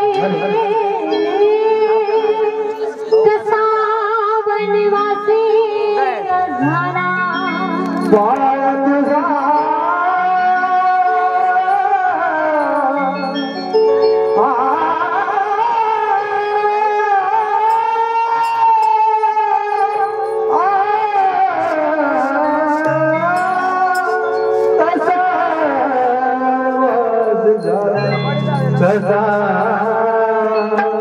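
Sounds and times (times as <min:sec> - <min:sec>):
instrumental accompaniment: 0:00.0 - 0:31.0
person singing with vibrato: 0:00.0 - 0:31.0.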